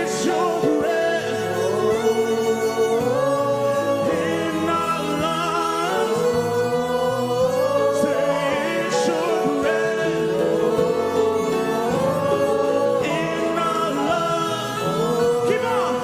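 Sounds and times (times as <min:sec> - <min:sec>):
gospel singing: 0:00.0 - 0:16.0
instrumental accompaniment: 0:00.0 - 0:16.0.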